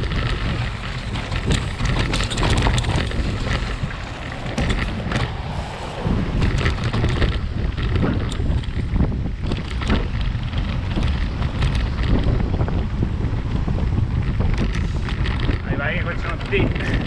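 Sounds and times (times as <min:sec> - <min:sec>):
bike rattling over stones: 0:00.0 - 0:17.0
wind rumble on microphone: 0:00.0 - 0:17.0.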